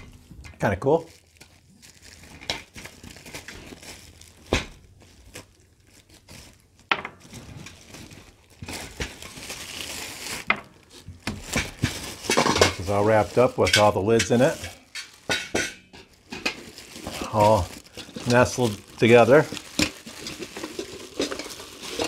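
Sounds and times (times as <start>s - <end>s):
mesh bag and plastic rustling: 0.0s - 22.0s.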